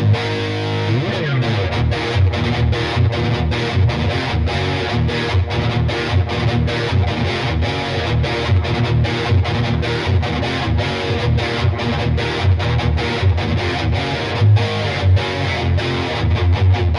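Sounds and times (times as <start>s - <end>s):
distorted electric guitar riff: 0.0s - 16.9s.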